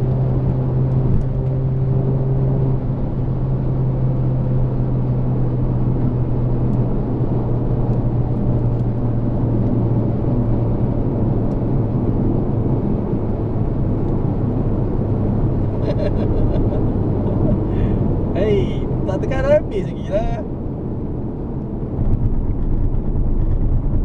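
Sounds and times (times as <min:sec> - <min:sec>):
car engine drone: 0:00.0 - 0:24.0
road and wind rumble: 0:00.0 - 0:24.0.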